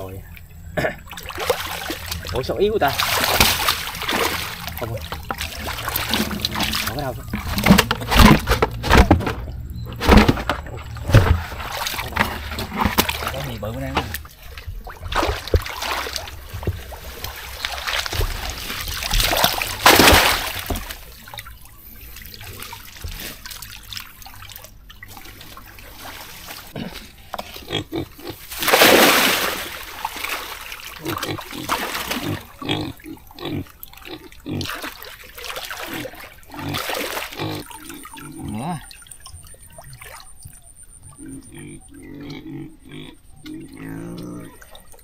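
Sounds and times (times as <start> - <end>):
water splashing in muddy water: 0.0 - 45.0.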